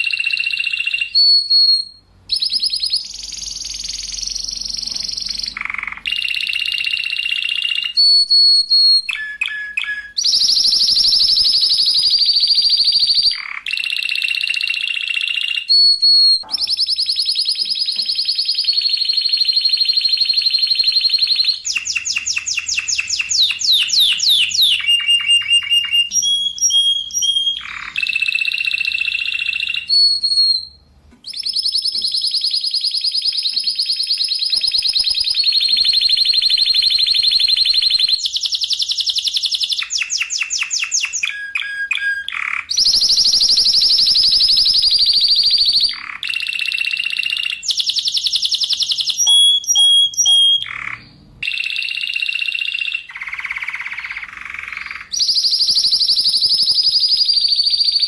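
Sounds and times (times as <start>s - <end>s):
canary singing rolling trills: 0.0s - 58.0s.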